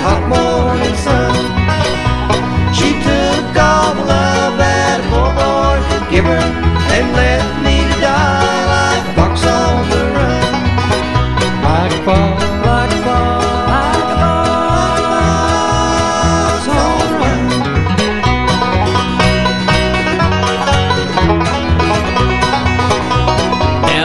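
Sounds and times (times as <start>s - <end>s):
banjo picking: 0.0s - 24.0s
bluegrass instrumental music: 0.0s - 24.0s
guitar picking: 0.0s - 24.0s
steady bass beat: 0.0s - 24.0s.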